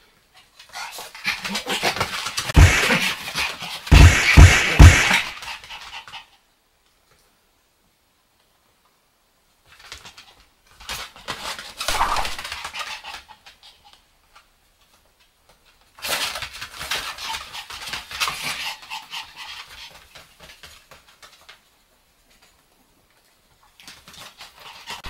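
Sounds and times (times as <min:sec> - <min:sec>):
dogs play-fighting: 0:00.2 - 0:06.4, 0:09.6 - 0:25.0.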